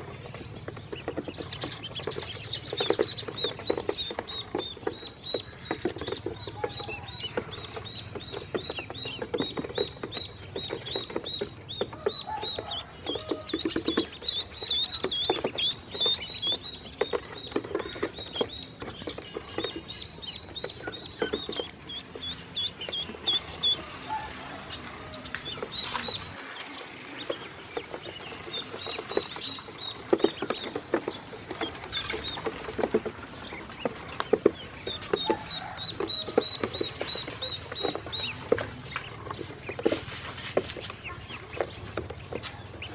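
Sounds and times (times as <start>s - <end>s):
ducklings peeping: 0.0s - 42.9s.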